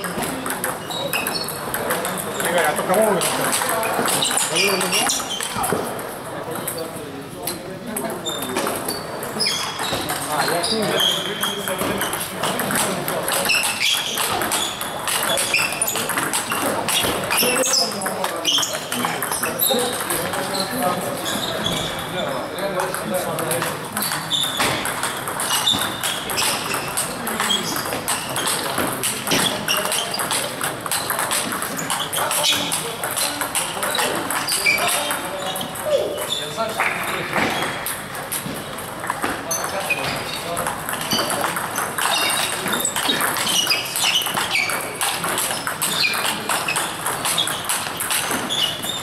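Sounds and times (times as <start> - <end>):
table tennis ball clicking: 0.0 - 6.9, 10.0 - 21.1, 22.7 - 36.3, 36.9 - 49.0.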